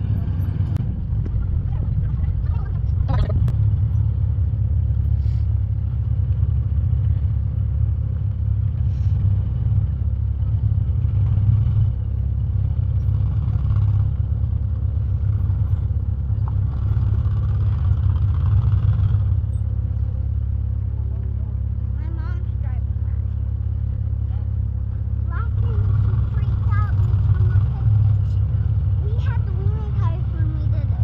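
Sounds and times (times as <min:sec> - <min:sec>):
engine rumbling under load: 0:00.0 - 0:31.0.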